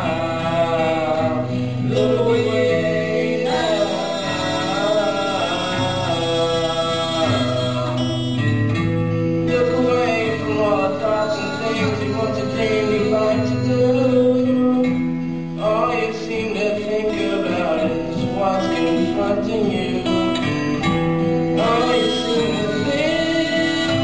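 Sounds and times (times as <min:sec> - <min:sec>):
man singing: 0:00.0 - 0:08.6, 0:09.3 - 0:24.0
acoustic guitars playing: 0:00.0 - 0:24.0.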